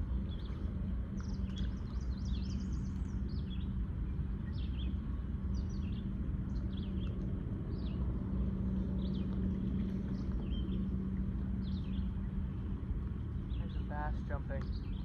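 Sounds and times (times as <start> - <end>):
low industrial hum: 0.0 - 15.0.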